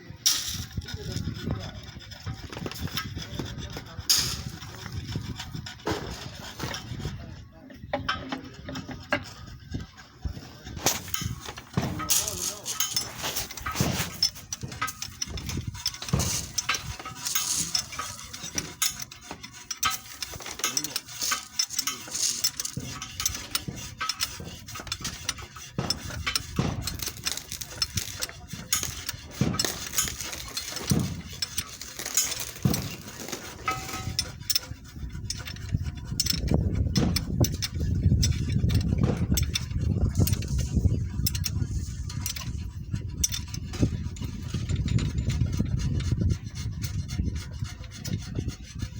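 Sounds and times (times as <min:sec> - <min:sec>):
metal tools clinking: 0:00.0 - 0:10.0, 0:10.6 - 0:48.5.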